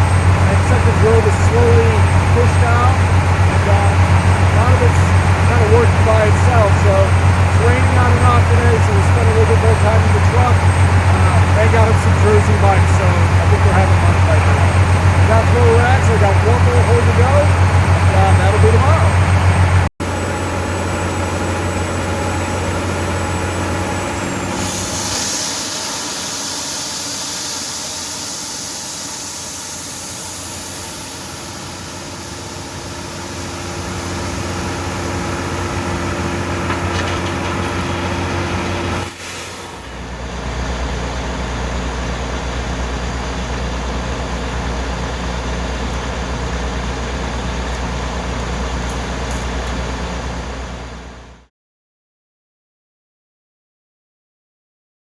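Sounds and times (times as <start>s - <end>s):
drilling rig engine humming: 0.0s - 51.5s.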